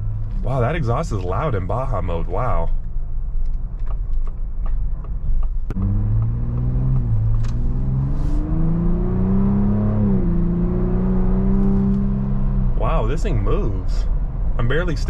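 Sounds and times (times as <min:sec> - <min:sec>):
engine exhaust rumble: 0:00.0 - 0:15.0.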